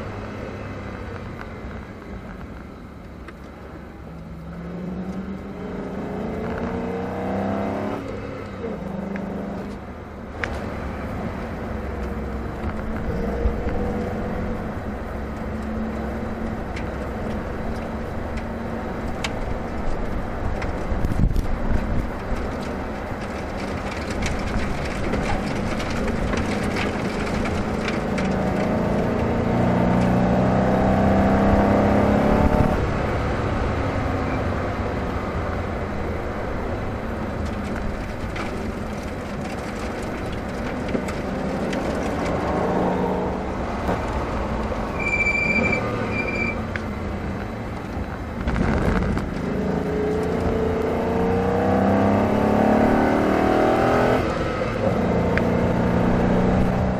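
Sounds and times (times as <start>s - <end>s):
car engine accelerating: 0.0s - 56.9s
wind and road noise: 0.0s - 56.9s.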